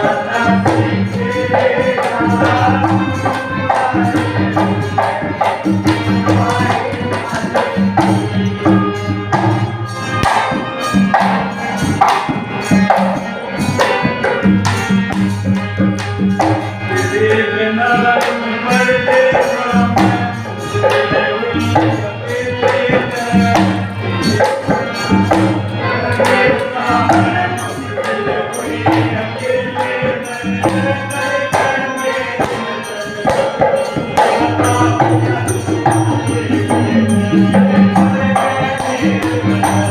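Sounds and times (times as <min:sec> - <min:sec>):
hand drum rhythm: 0:00.0 - 0:39.9.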